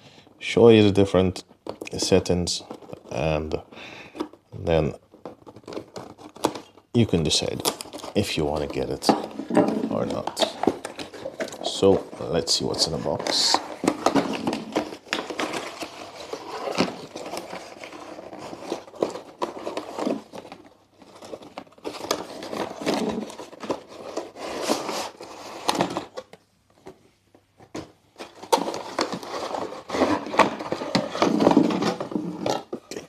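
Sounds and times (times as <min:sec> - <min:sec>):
packaging rustling: 0:01.4 - 0:27.0, 0:27.6 - 0:33.0.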